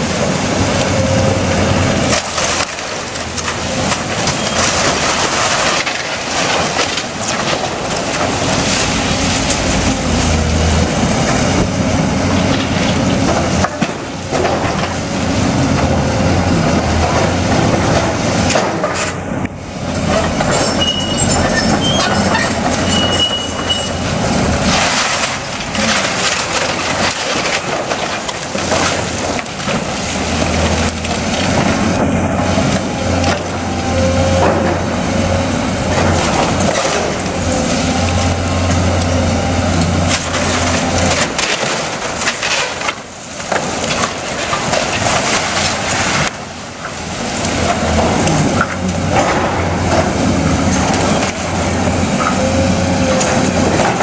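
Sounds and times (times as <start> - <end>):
excavator diesel engine: 0.0 - 54.0
debris crashing down: 1.6 - 54.0
wood beams cracking: 2.0 - 54.0.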